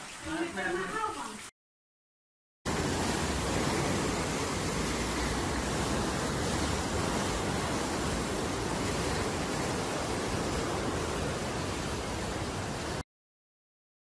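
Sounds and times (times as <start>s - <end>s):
floodwater rushing through channel: 0.0s - 1.5s, 2.7s - 13.0s.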